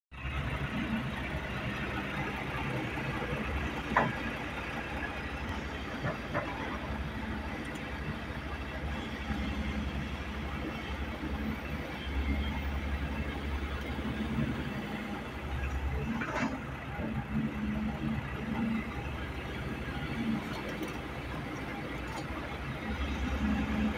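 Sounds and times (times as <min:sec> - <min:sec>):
diesel engine rumbling: 0:00.1 - 0:23.9.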